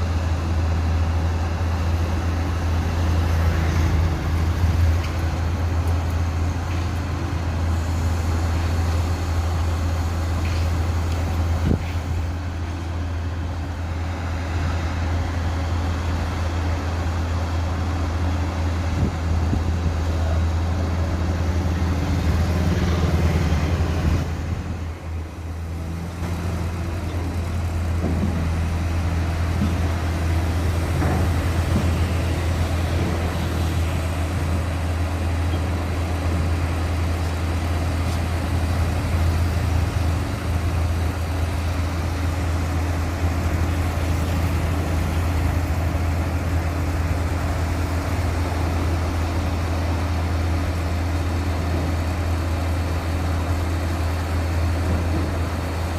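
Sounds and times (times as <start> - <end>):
heavy diesel engine droning: 0.0 - 55.9.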